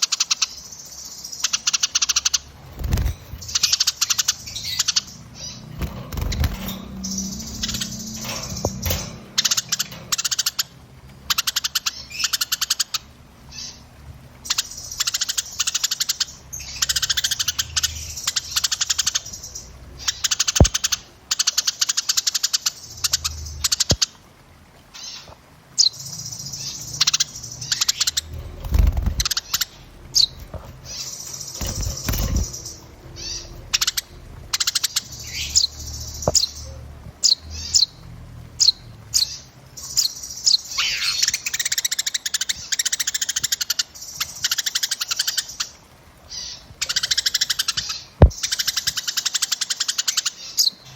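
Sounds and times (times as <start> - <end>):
songbirds chattering trills: 0.0 - 50.9.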